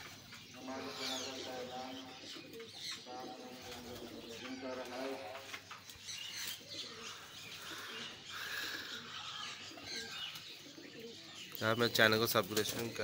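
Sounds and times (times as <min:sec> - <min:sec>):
high chirping calls: 0:00.0 - 0:13.0
pigeons cooing: 0:00.0 - 0:13.0.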